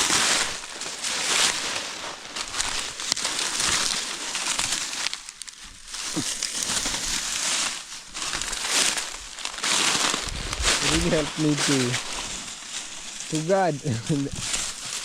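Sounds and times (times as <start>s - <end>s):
dry maize leaves crunching: 0.0s - 15.0s.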